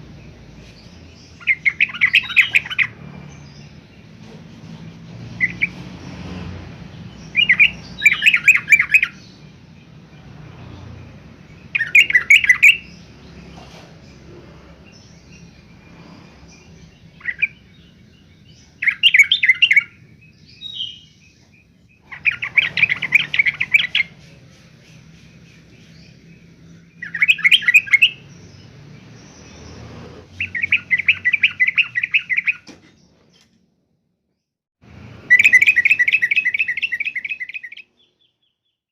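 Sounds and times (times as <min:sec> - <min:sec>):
bird singing rapid notes: 0:00.0 - 0:33.5, 0:35.2 - 0:38.8.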